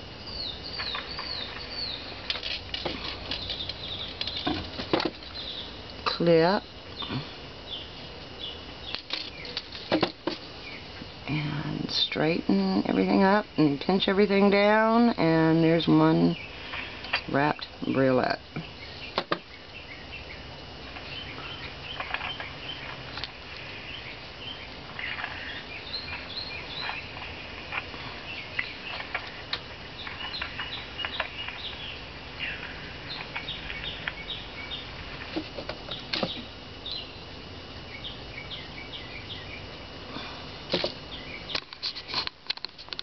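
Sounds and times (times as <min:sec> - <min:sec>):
small birds chirping: 0:00.0 - 0:42.8.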